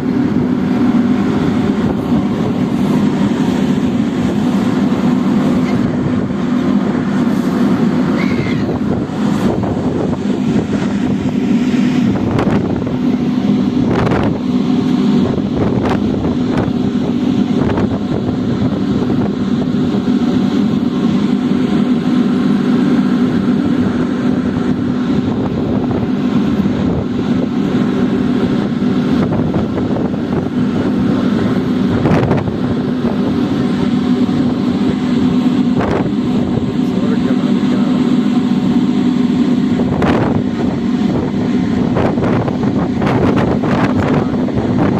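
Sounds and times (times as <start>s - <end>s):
ferry engine humming: 0.0s - 44.9s.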